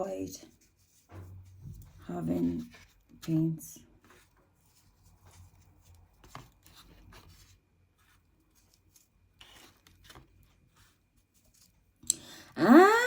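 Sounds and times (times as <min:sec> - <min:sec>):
faint taps and paper rustling: 0:00.5 - 0:12.0.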